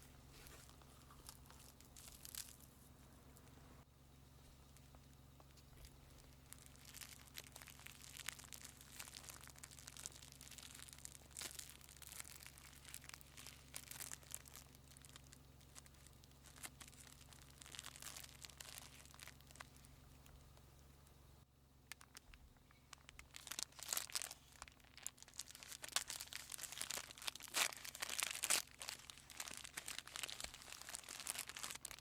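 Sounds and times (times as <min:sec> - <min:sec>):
faint scratching and rustling: 0:00.0 - 0:20.6, 0:22.2 - 0:32.0
low electrical hum: 0:00.0 - 0:32.0.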